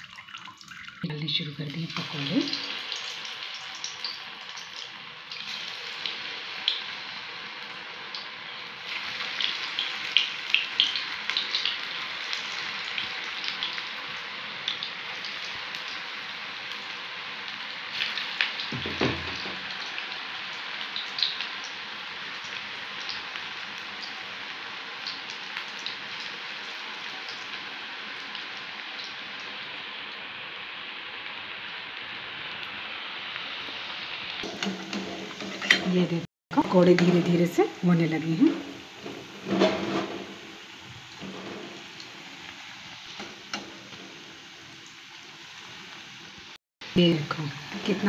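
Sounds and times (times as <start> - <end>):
food deep-frying in hot oil: 0.0 - 48.0.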